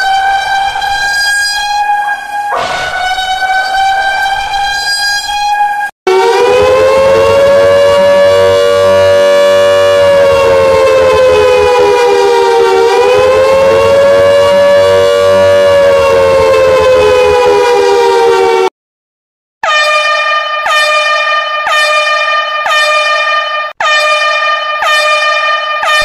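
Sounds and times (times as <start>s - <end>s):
rising and falling siren alert: 0.0s - 18.7s, 19.6s - 26.0s
steady horn-like alarm tone: 0.0s - 18.7s, 19.6s - 26.0s.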